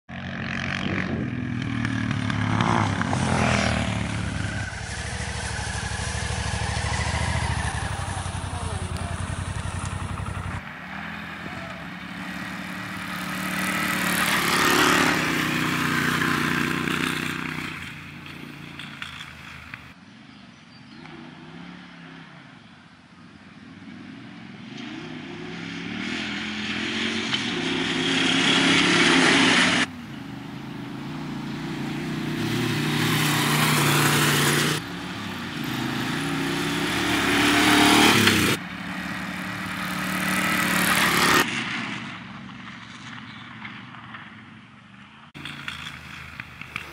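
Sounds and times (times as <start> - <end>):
motorcycles accelerating past: 0.1 - 20.0, 23.6 - 42.1, 45.4 - 46.9.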